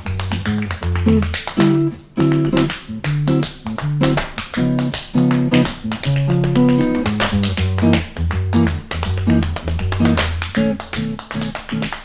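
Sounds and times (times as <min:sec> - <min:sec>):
plucked guitar and bass music: 0:00.0 - 0:12.0
tap shoes on hardwood floor: 0:00.0 - 0:12.0.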